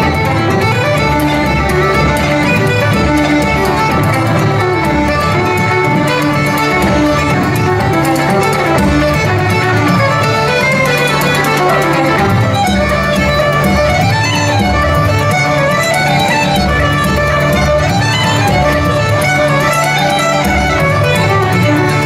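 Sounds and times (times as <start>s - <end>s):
fiddle playing quick tune: 0.0s - 22.0s
frame drum: 0.0s - 22.0s.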